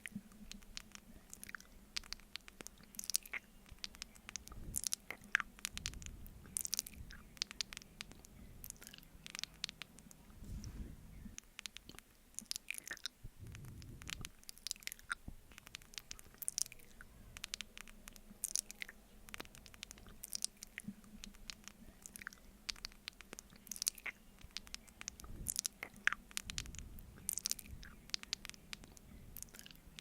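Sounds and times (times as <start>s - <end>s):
sticky wet mouth clicks: 0.0s - 10.4s, 11.3s - 30.0s.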